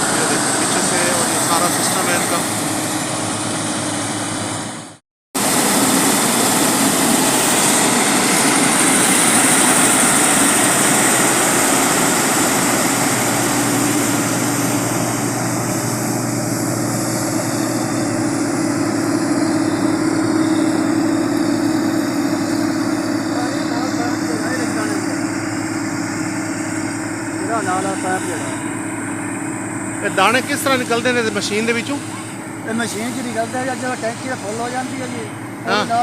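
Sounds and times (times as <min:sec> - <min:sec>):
combine harvester running: 0:00.0 - 0:36.0.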